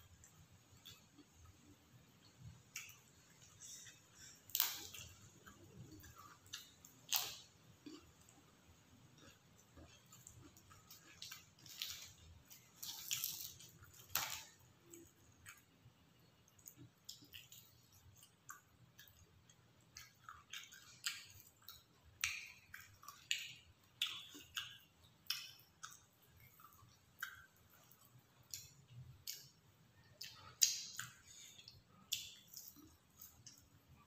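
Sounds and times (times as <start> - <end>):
person chewing: 0.1 - 15.8, 16.4 - 34.0.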